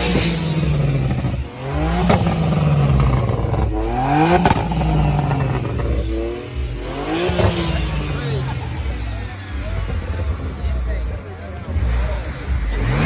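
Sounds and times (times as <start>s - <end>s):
car engine revving: 0.0s - 13.0s
exhaust crack: 0.0s - 13.0s.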